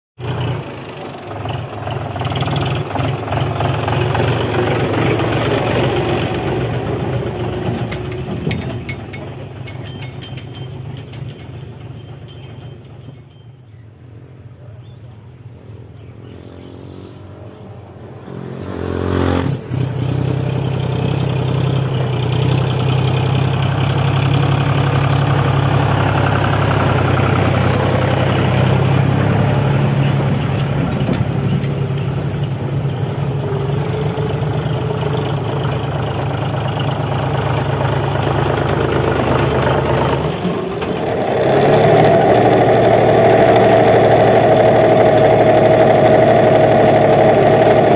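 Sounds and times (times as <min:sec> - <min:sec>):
tractor diesel engine running: 0:00.2 - 0:14.6, 0:19.6 - 0:47.9.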